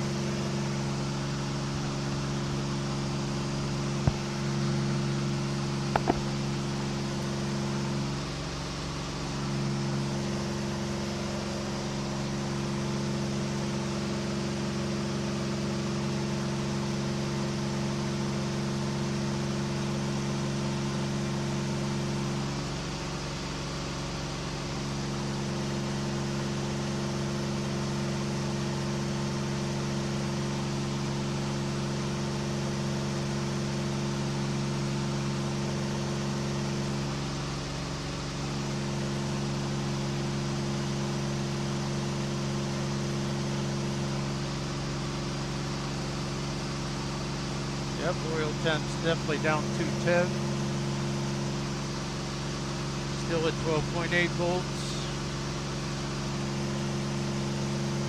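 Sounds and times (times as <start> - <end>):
light aircraft engine running: 0.0 - 58.0.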